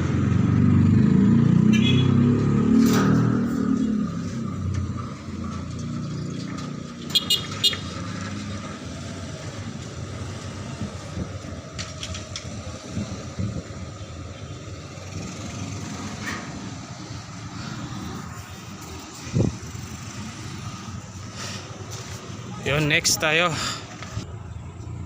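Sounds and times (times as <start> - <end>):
motor vehicles rumbling: 0.0 - 25.0.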